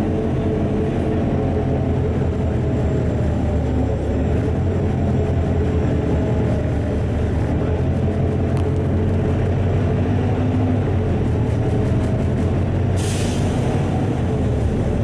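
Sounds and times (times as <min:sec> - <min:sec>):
bus engine low rumble: 0:00.0 - 0:15.0.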